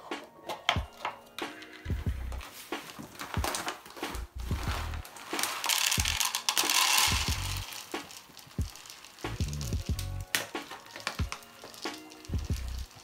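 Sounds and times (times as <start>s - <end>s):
plastic bag rustling: 2.3s - 13.0s
pellets pouring into plastic tub: 2.5s - 13.0s.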